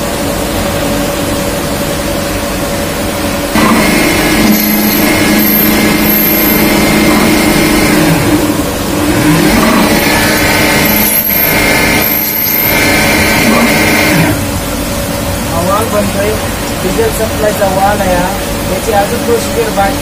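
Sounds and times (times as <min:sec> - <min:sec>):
coolant splashing: 0:00.0 - 0:20.0
machine spindle whine: 0:00.0 - 0:20.0.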